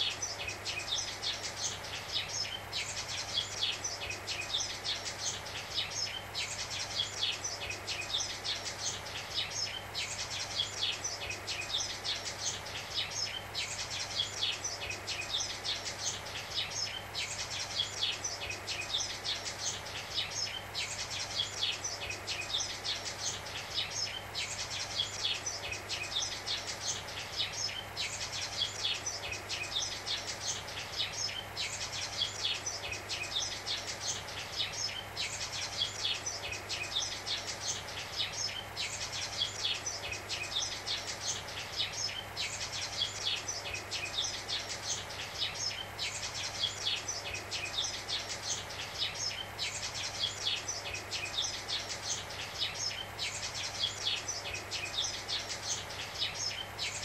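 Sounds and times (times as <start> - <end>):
sparrows chirping: 0.0 - 57.0
static white noise hiss: 0.0 - 57.0.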